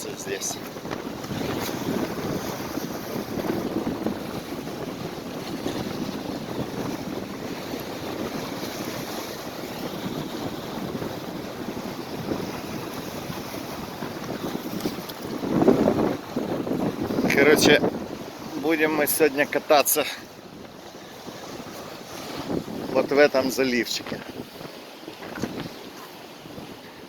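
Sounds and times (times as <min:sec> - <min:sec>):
waves breaking on shore: 0:00.0 - 0:27.0
wind buffeting microphone: 0:00.0 - 0:27.0.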